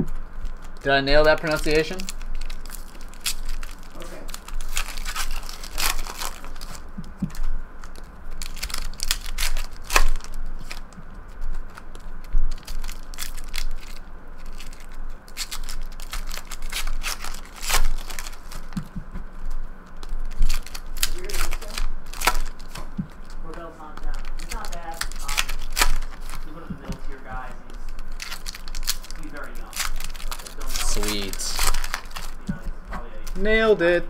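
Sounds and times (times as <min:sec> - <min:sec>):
foil wrappers crinkling and tearing: 0:00.0 - 0:32.5
cards being handled: 0:00.0 - 0:33.4.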